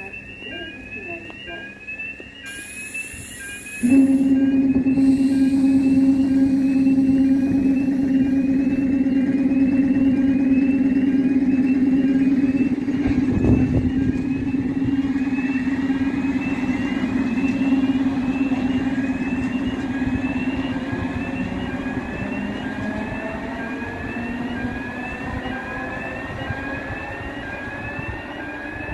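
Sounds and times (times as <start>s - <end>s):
electric train hum: 0.0s - 28.9s
rising high whine: 2.5s - 28.9s.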